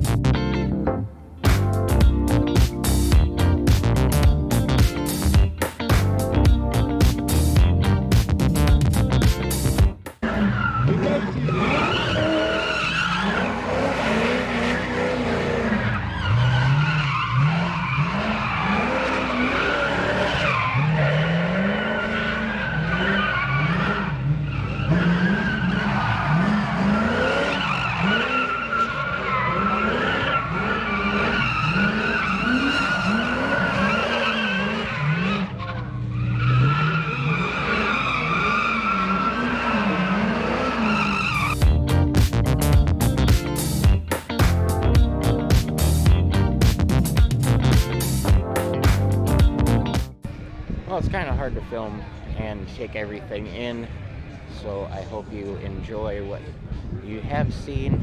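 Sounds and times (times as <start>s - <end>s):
car engine revving: 1.4s - 50.4s.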